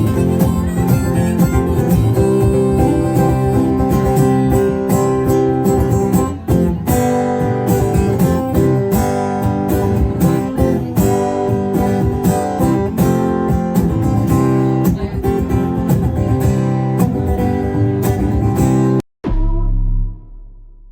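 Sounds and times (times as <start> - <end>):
acoustic guitar strumming: 0.0 - 20.2.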